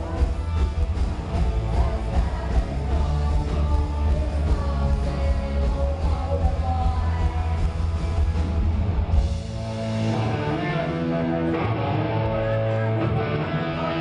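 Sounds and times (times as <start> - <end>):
bass: 0.0 - 14.0
distorted electric guitars: 0.0 - 14.0
drums: 0.0 - 14.0.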